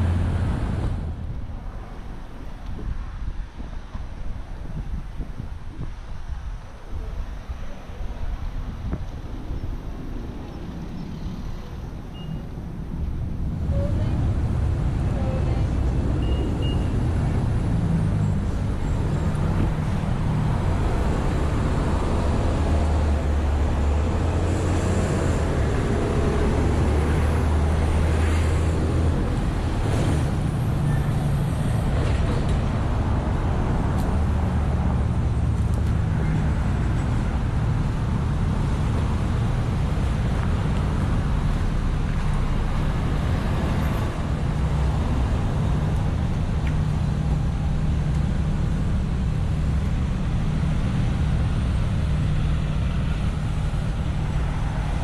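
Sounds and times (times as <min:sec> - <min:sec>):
wind buffeting microphone: 0:00.0 - 0:52.2
road traffic: 0:00.0 - 0:55.0.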